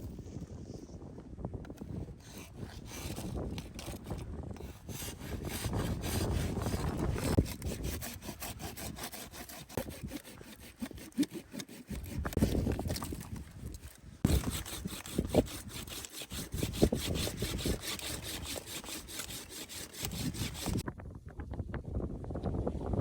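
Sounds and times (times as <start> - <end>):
wood being sawn by hand: 1.8 - 20.8.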